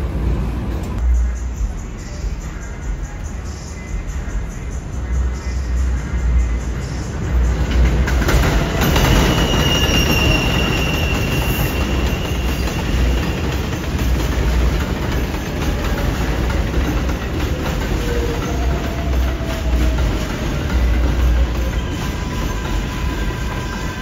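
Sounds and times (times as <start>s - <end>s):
train wheels rumbling and clattering: 0.0s - 24.0s
high wheel squeal: 1.9s - 24.0s.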